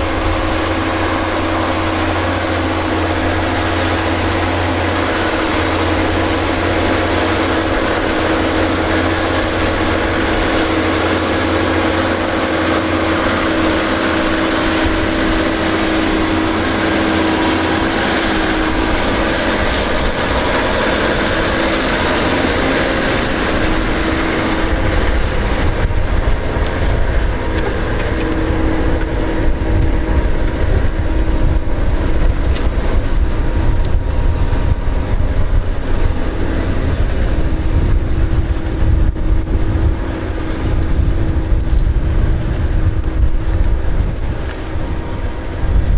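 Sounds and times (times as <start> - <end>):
heavy uneven low rumble: 0.0 - 45.9
large machine engine running: 0.0 - 45.9
steady whine: 0.0 - 45.9.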